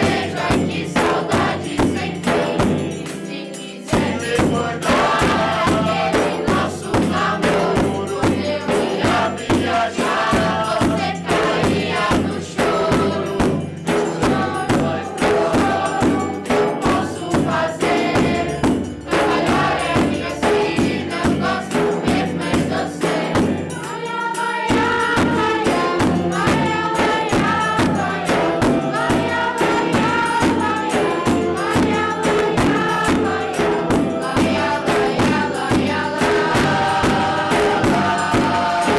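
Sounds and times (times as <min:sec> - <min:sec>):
choir singing in unison: 0:00.0 - 0:38.9
hand percussion beat: 0:00.0 - 0:38.9.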